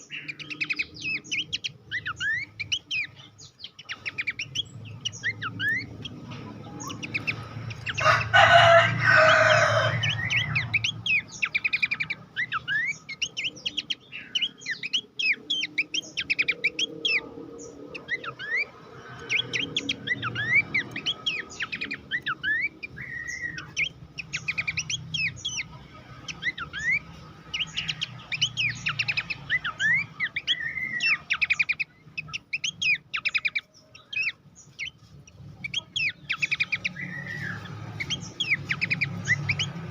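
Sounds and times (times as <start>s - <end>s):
harsh bird call: 0.0s - 35.0s
bird chirping and whistling: 0.0s - 39.9s.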